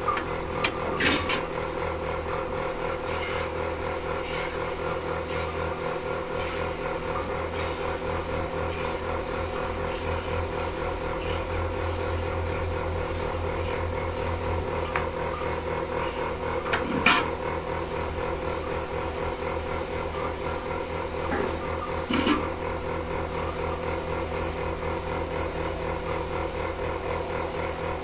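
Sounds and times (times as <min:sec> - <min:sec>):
milking machine pulsing hum: 0:00.0 - 0:28.0.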